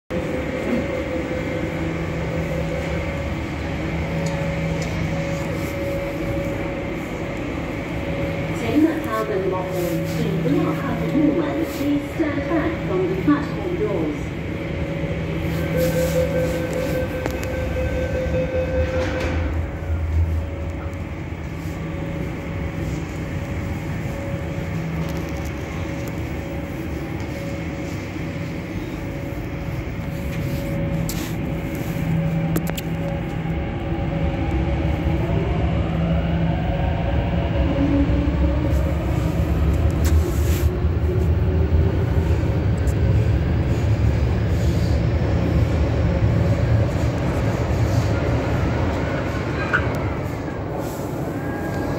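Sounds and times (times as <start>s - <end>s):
train low rumble: 0.1s - 51.9s.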